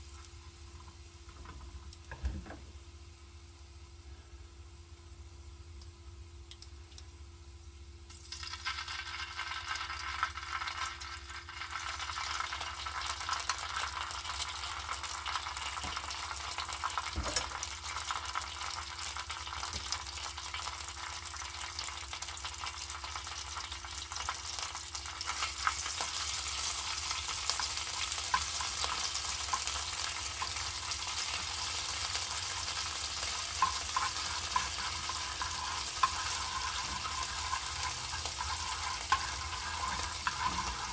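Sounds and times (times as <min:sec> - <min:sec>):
food sizzling in a frying pan: 0:00.0 - 0:40.9.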